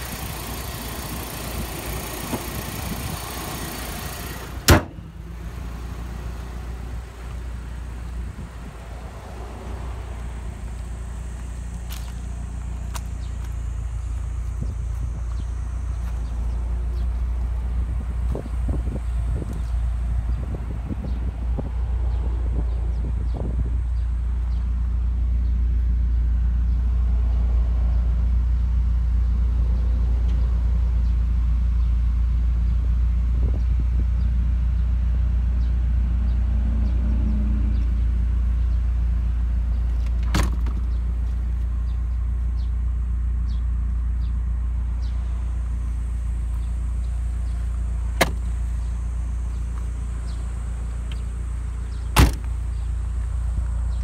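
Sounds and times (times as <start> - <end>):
car engine idling: 0.0 - 37.0, 37.6 - 54.0.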